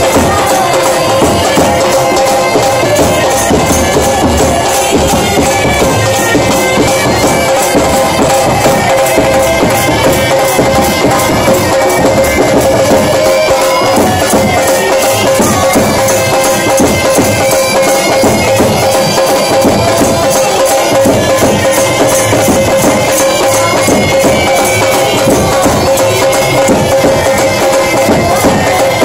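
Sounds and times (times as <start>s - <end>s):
bagpipes playing a melody: 0.0s - 29.0s
drums beating: 0.0s - 29.0s.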